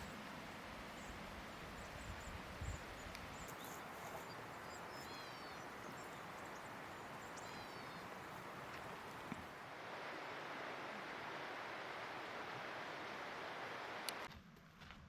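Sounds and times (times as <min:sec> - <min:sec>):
river water flowing: 0:00.0 - 0:14.3.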